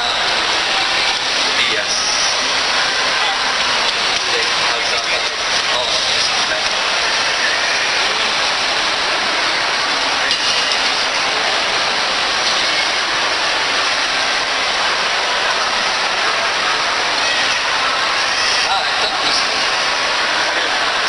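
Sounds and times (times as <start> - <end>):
indistinct crowd voices: 0.0 - 21.0.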